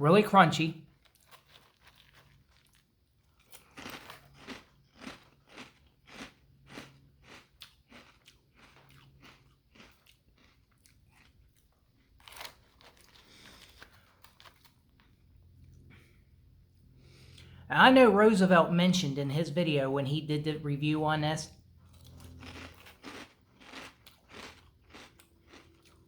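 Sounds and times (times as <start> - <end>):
person chewing crunchy cereal: 0.2 - 26.0.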